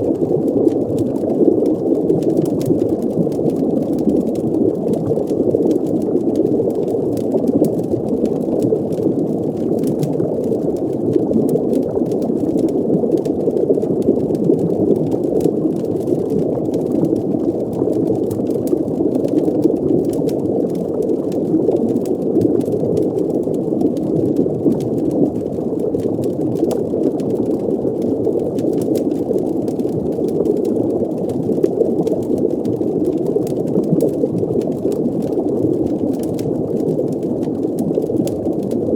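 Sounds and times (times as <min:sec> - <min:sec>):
underwater rumble with bubbling: 0:00.0 - 0:38.9
faint crackling clicks: 0:00.1 - 0:38.9.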